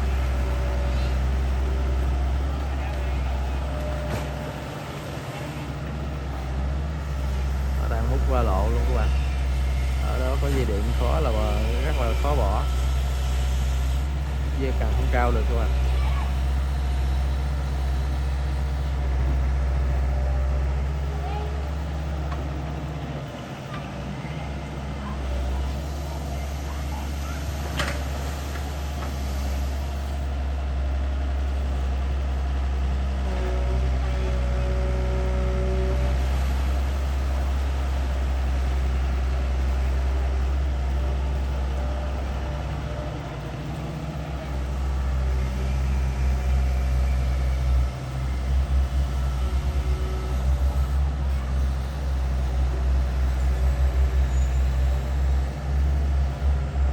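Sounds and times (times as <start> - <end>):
excavator diesel engine rumbling: 0.0 - 56.9.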